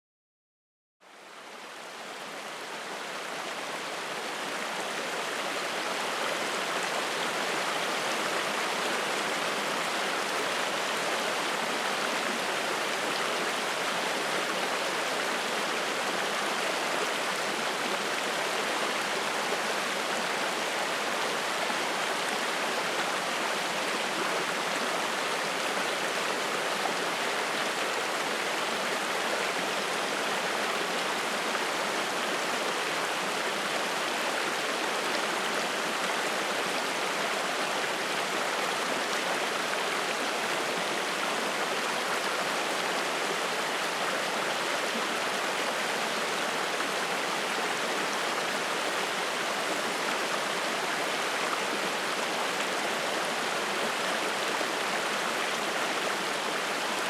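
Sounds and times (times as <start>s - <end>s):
stream rushing over rocks: 1.0s - 57.0s.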